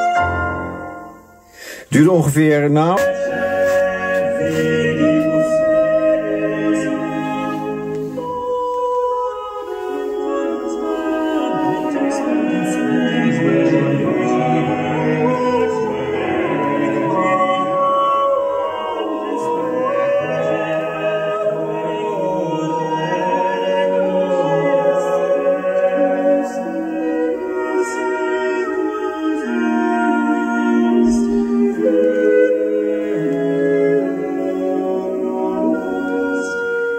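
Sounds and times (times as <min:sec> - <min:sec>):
recorded music with singing: 0:00.0 - 0:36.9.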